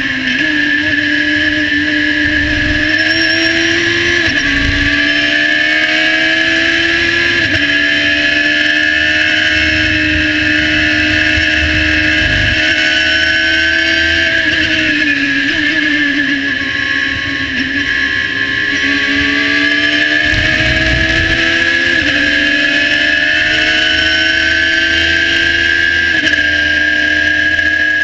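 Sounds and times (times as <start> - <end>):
race car engine at full throttle: 0.0 - 28.0
wind and road rumble: 1.1 - 15.8, 16.7 - 26.4.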